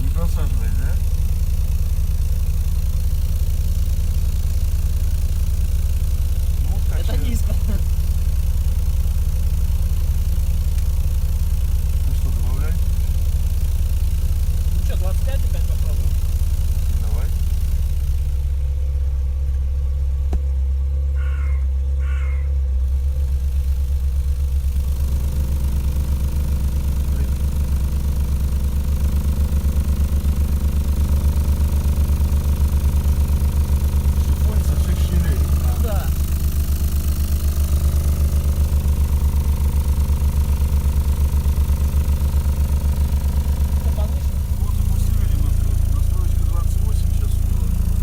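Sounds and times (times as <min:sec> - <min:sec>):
subwoofer deep hum: 0:00.0 - 0:48.0.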